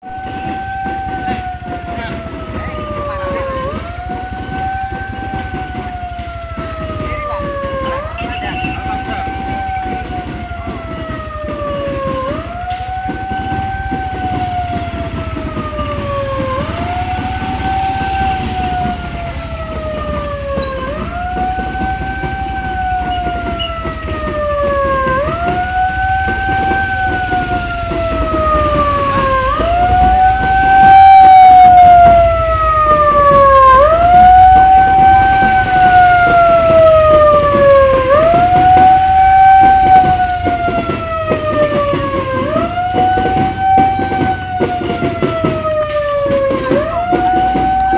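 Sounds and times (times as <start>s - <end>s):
siren wailing: 0.0s - 47.9s.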